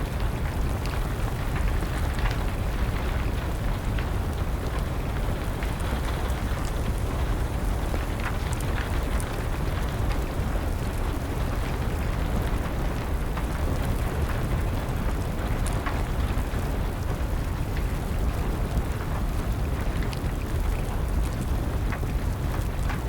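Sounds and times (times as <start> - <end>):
steady rain: 0.0 - 23.0
wood fire crackling and popping: 0.0 - 23.0.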